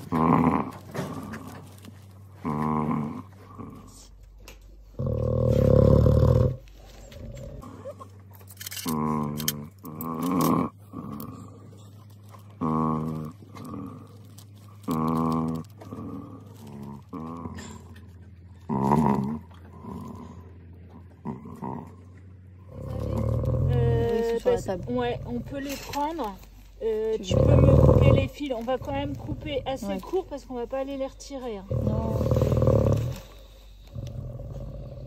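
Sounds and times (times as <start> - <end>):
lion snoring: 0.0 - 4.2, 4.8 - 7.9, 8.8 - 35.0.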